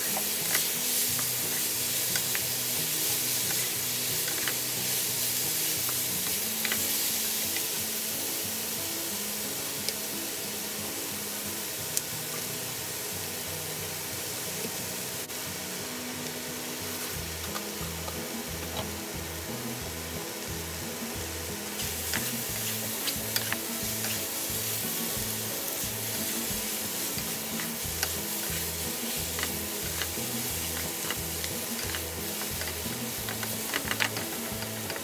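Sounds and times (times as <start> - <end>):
food sizzling in a frying pan: 0.0 - 35.0
soft background music: 0.0 - 35.0.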